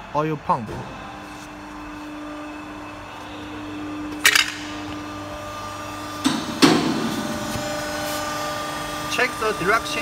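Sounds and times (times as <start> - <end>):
electric pump motor humming: 0.8 - 10.0.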